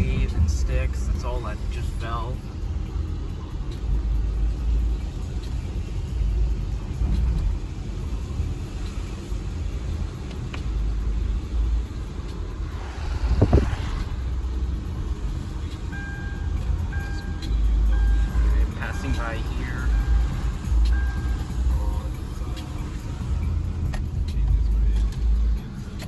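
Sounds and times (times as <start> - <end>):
car road noise rumble: 0.0 - 26.0.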